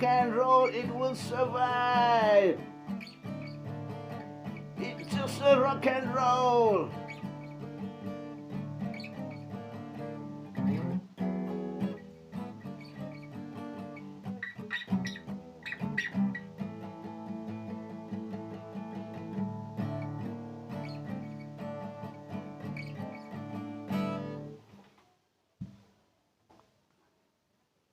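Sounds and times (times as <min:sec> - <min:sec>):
acoustic guitar strumming: 0:00.0 - 0:24.8.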